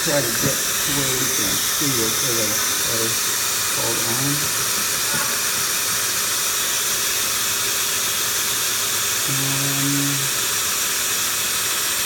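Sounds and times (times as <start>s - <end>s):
vacuum cleaner blowing: 0.0s - 12.0s.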